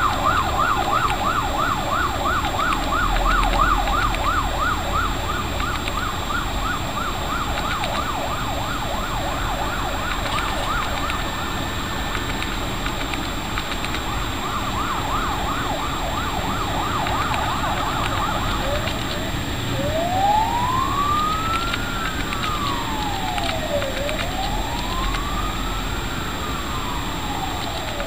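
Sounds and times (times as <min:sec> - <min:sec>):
low rumble of traffic: 0:00.0 - 0:28.0
police siren yelping: 0:00.0 - 0:28.0.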